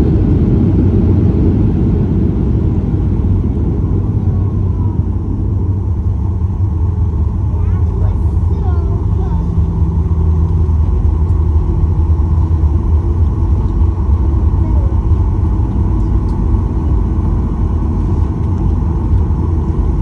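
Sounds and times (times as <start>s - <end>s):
aircraft cabin rumble: 0.0s - 20.0s.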